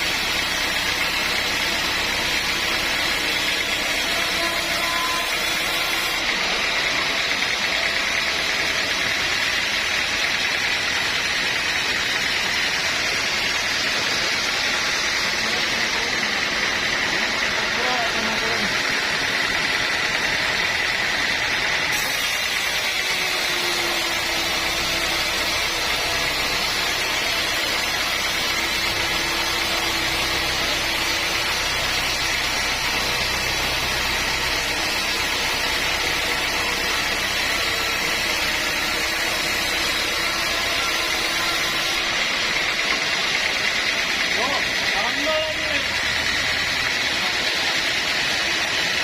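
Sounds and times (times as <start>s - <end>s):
sawmill machinery running: 0.0s - 49.0s.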